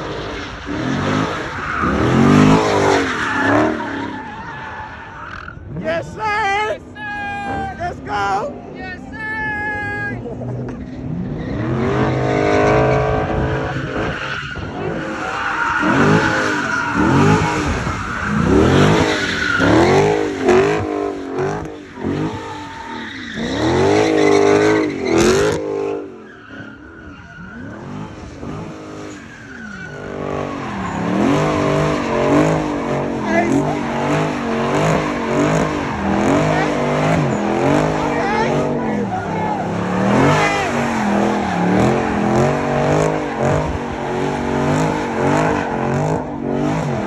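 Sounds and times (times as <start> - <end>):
car engine revving: 0.0 - 8.8, 10.2 - 47.0
tyres skidding on pavement: 0.0 - 9.1, 10.1 - 47.0.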